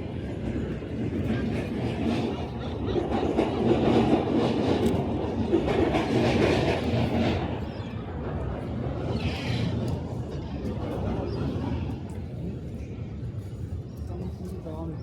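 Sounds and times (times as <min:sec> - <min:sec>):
train wheels clattering on rails: 0:00.0 - 0:12.7.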